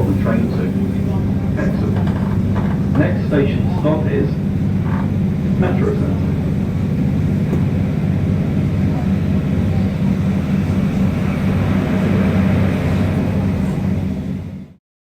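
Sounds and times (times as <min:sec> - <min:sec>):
diesel engine drone: 0:00.0 - 0:14.8
train running noise on rails: 0:00.0 - 0:14.8.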